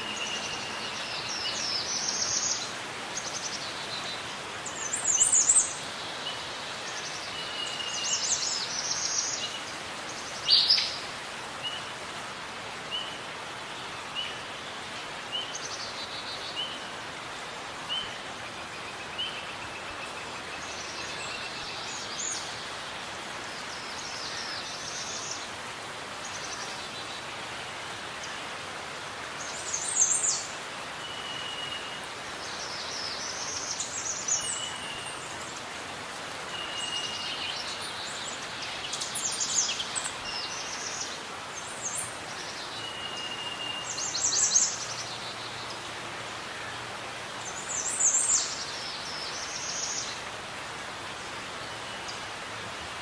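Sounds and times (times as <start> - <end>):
background hiss: 0.0 - 53.0
forest birdsong: 0.0 - 53.0.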